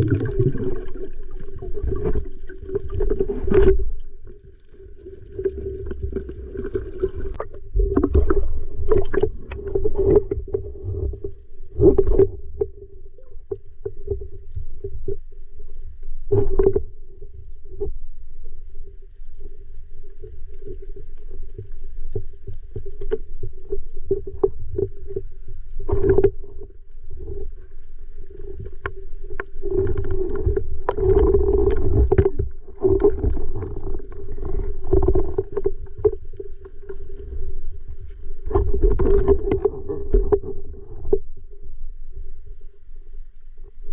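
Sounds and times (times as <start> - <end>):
underwater low hum: 0.0 - 43.9
water movement: 0.0 - 43.9.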